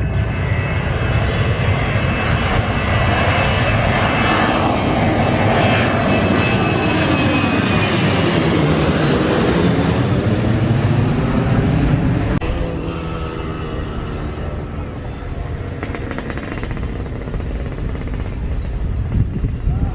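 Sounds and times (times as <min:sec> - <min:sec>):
jet airliner engines passing: 0:00.0 - 0:19.9.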